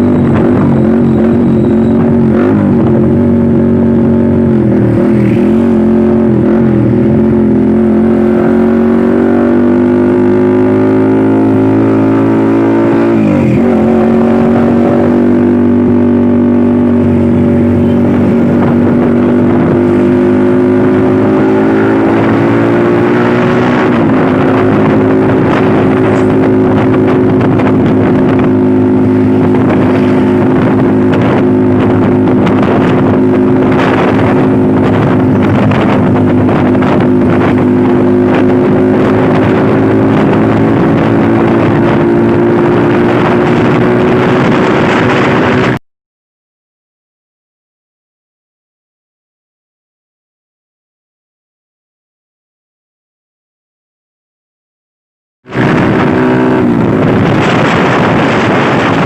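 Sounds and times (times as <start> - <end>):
truck engine accelerating: 0.0 - 45.8, 55.5 - 59.0.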